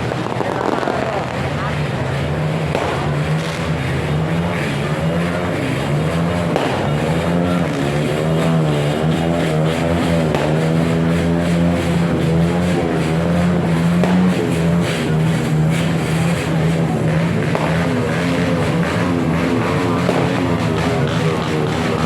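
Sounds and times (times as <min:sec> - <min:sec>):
loud motor drone: 0:00.0 - 0:22.0.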